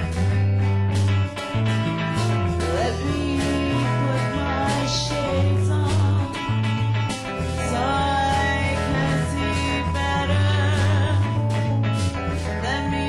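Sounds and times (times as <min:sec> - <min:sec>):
band music: 0:00.0 - 0:13.0
bass line: 0:00.0 - 0:13.0.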